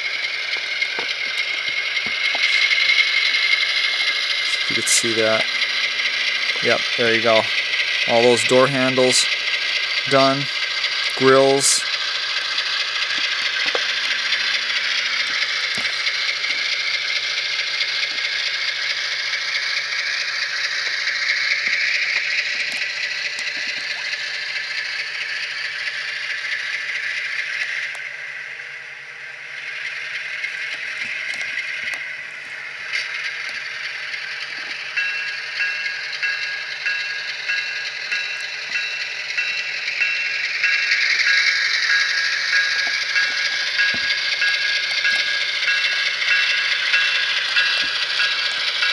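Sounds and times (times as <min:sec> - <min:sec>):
diesel engine sound from speaker: 0:00.0 - 0:48.9
wheels rattling on rails: 0:00.0 - 0:48.9.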